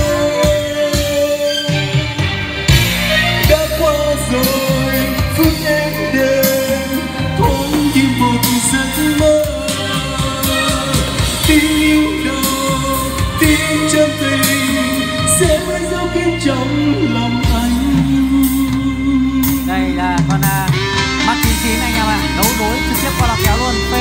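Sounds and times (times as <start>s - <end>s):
man singing karaoke: 0.0s - 24.0s
pop backing track: 0.0s - 24.0s.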